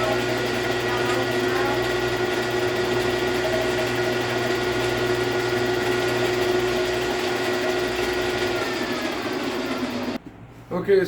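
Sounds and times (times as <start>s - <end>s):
milling machine cutting metal: 0.0s - 10.2s.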